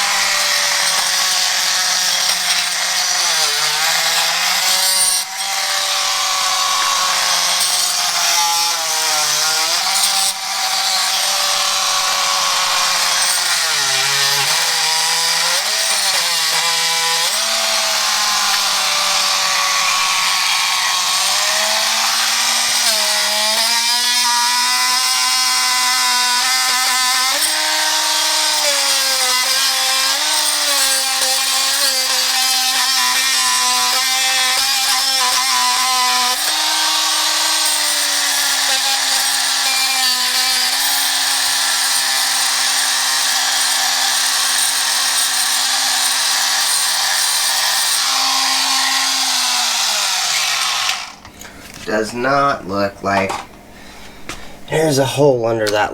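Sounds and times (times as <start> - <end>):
oscillating multi-tool running: 0.0 - 51.2.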